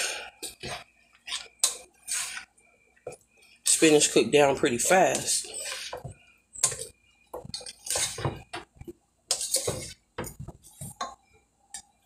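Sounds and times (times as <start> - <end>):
spoon stirring in metal pot: 0.4 - 12.0.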